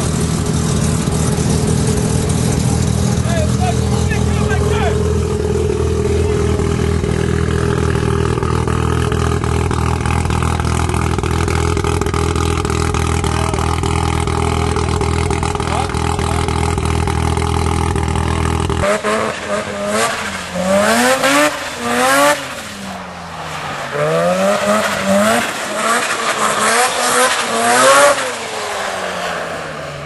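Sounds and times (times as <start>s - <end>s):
car engine idling: 0.0s - 30.0s
car engine revving hard: 0.0s - 30.0s.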